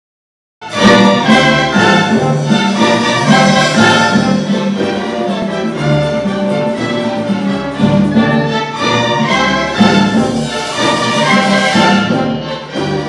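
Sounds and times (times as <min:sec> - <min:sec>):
string orchestra playing: 0:00.6 - 0:13.0.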